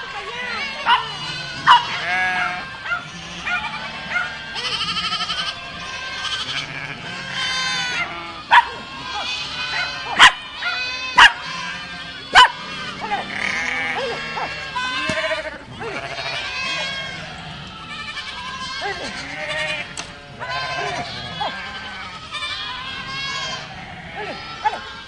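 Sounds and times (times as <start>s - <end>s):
goats bleating: 0.0s - 25.0s.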